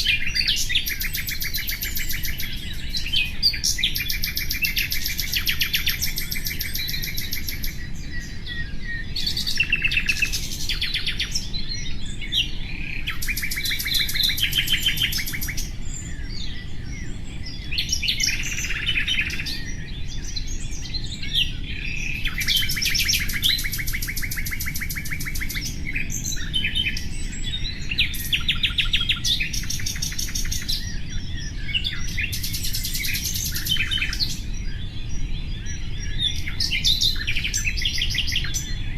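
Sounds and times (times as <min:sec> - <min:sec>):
low steady background hiss: 0:00.0 - 0:38.9
nightingale singing: 0:00.0 - 0:38.9.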